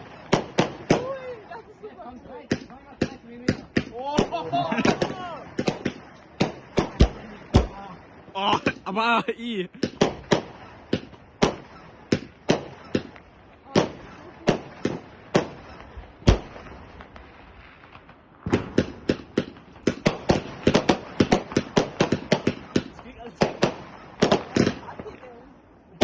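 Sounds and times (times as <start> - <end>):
faint fireworks crackle: 0.0 - 26.0
fireworks bangs: 0.0 - 26.0.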